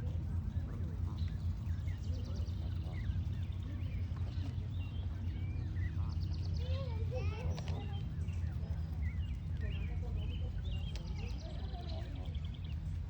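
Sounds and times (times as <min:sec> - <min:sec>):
distant voices: 0:00.0 - 0:13.0
low background rumble: 0:00.0 - 0:13.0.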